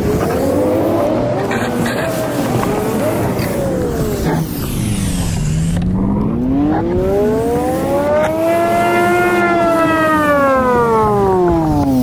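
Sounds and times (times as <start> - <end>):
emergency siren wailing: 0.8 - 11.8.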